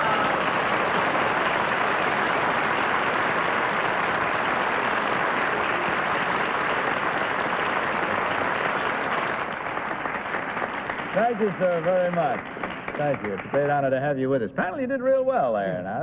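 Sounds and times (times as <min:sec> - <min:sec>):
audience applause: 0:00.0 - 0:14.3.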